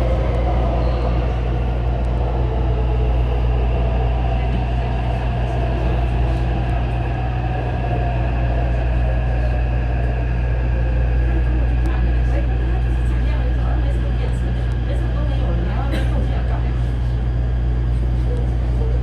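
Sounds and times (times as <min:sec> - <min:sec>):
faint hum: 0:00.0 - 0:19.0
train wheels rumbling on rails: 0:00.0 - 0:19.0.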